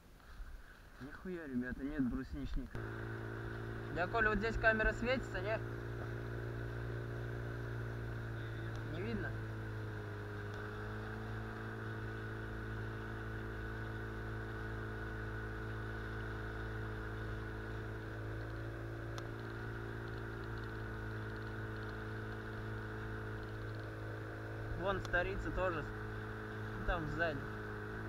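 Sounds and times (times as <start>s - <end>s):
outboard motor drone: 2.6s - 28.0s.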